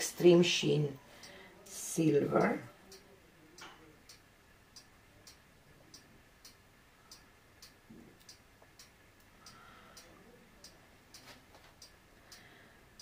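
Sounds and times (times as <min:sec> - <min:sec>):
faint regular ticking: 0:00.1 - 0:13.0.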